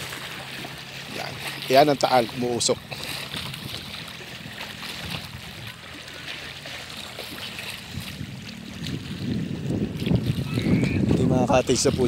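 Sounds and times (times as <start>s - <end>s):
lake water lapping: 0.0s - 12.0s.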